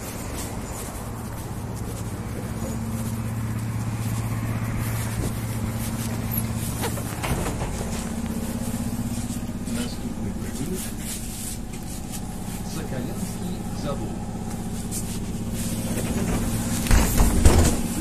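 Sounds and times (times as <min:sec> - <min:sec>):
footsteps and knocks: 0:00.0 - 0:12.7, 0:14.4 - 0:18.0
trolleybus humming: 0:00.0 - 0:18.0.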